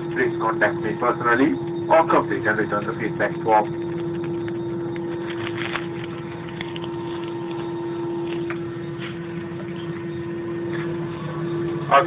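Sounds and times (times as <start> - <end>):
airliner cabin hum: 0.0 - 12.0
constant mid-pitched tone: 0.0 - 12.0.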